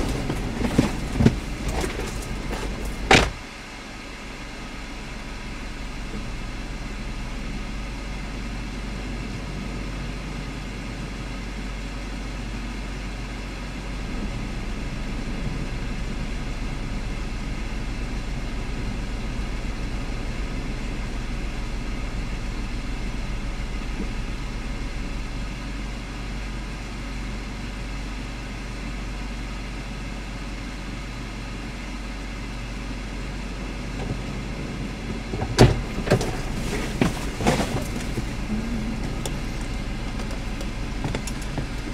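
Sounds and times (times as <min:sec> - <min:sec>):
parked vehicle engine running: 0:00.0 - 0:41.9.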